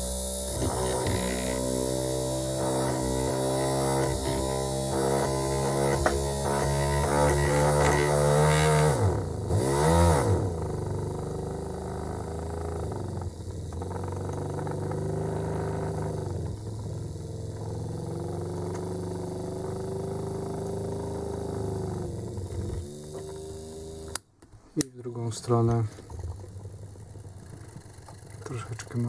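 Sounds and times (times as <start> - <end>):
small electric drill running: 0.0 - 24.2.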